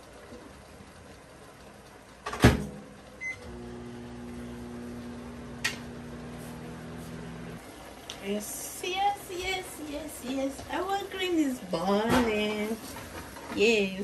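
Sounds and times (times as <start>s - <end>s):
microwave oven humming: 0.0s - 13.3s.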